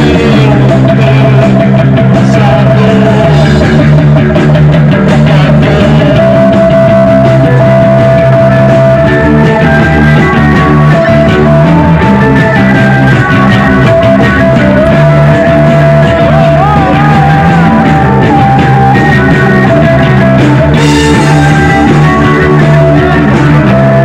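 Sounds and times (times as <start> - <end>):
loud rock music: 0.0 - 24.0.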